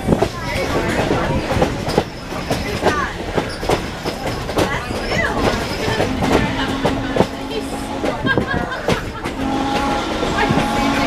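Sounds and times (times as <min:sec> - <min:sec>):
faint passengers' voices: 0:00.0 - 0:11.0
train coach rumbling on track: 0:00.0 - 0:11.0
train wheels clicking and knocking: 0:00.0 - 0:11.0.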